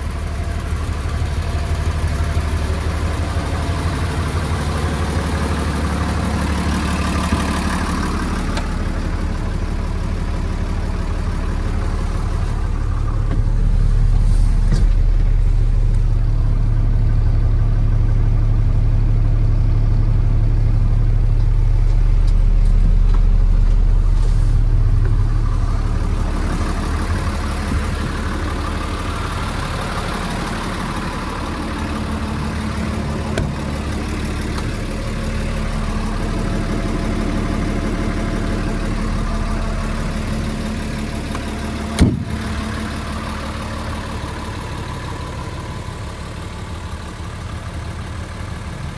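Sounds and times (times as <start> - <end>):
diesel truck engine rumbling: 0.0 - 48.9.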